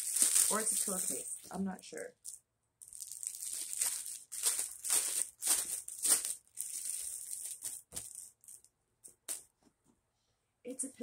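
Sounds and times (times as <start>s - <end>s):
fabric rustling and crinkling: 0.0s - 1.6s, 2.2s - 9.8s.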